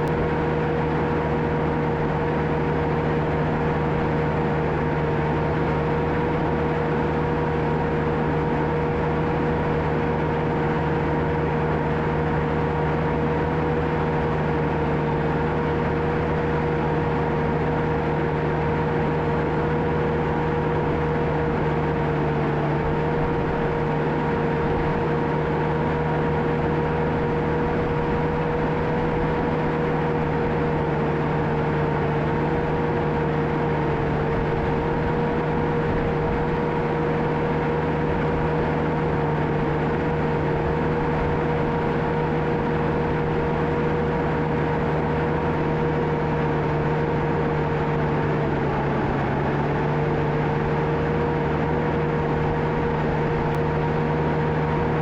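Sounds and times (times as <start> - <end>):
constant whine: 0.0 - 55.0
diesel bulldozer engine running: 0.0 - 55.0.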